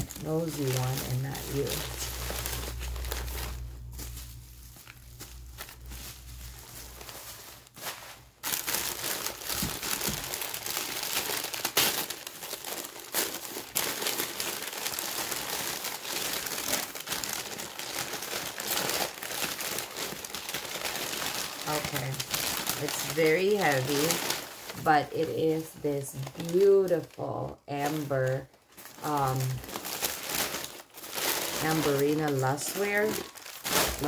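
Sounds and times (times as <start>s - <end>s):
packing wrap crinkling: 0.0s - 34.0s.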